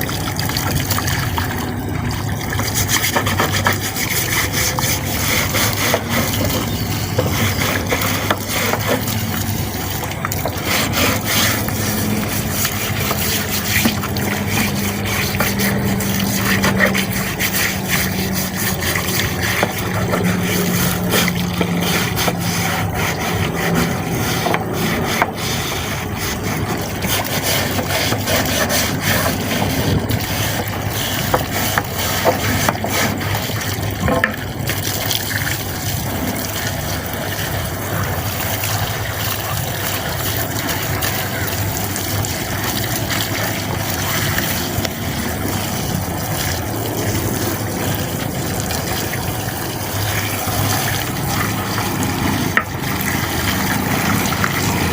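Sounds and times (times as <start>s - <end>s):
low motor hum: 0.0s - 54.9s
washing machine drum scraping: 0.0s - 54.9s.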